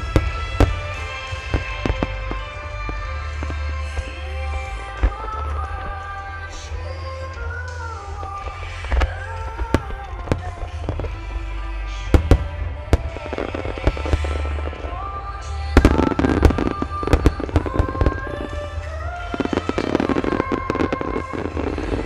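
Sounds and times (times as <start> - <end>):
fireworks bangs: 0.0 - 22.0
music with long held notes: 0.0 - 22.0.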